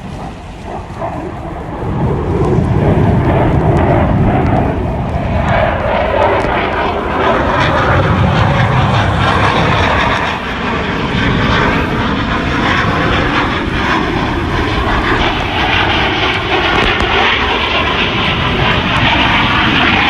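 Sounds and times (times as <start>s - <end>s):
loud aircraft engine: 0.0s - 20.0s.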